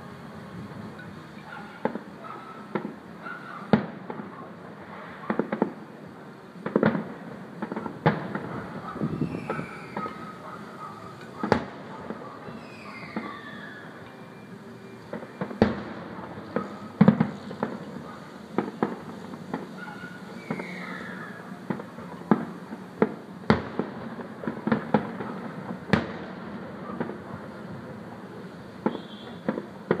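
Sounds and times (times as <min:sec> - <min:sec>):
distant firework bangs: 0:01.4 - 0:14.0, 0:15.0 - 0:30.0.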